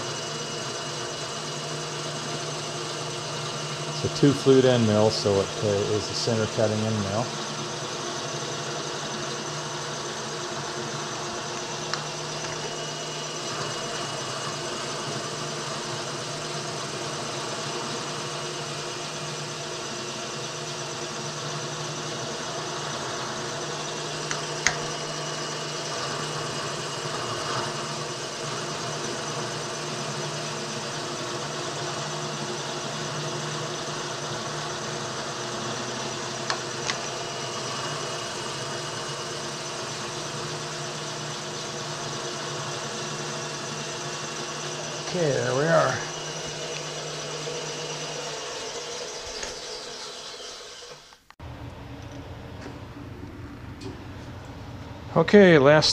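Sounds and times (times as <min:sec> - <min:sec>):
milling machine humming: 0:00.0 - 0:55.9.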